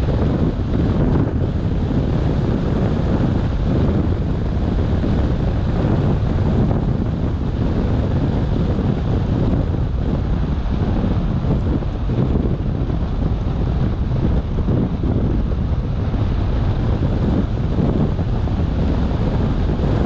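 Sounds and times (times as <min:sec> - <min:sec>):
car driving on wet road: 0:00.0 - 0:20.0.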